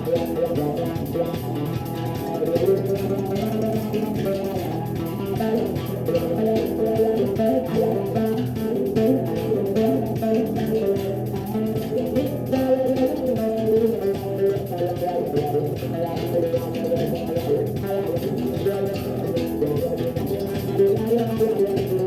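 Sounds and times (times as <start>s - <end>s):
plucked bass guitar: 0.0s - 22.0s.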